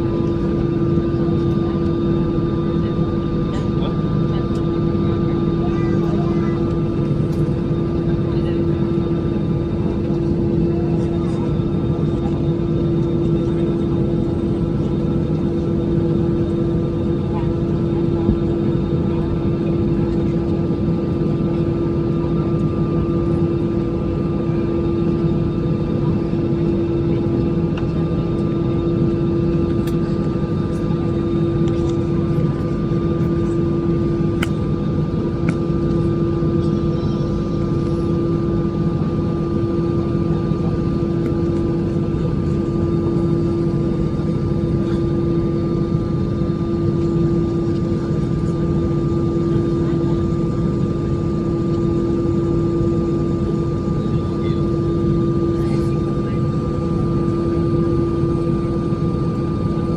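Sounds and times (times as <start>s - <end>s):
airplane engines droning: 0.0s - 59.9s.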